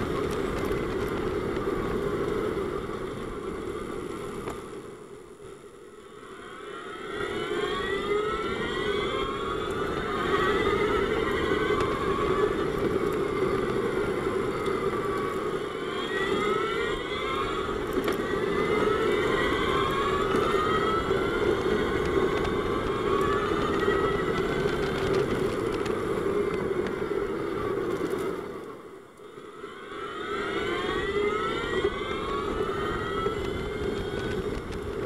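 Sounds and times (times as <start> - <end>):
tyre and wind noise: 0.0 - 5.6, 7.1 - 28.8, 30.1 - 35.0
electric drivetrain whine: 0.0 - 35.0.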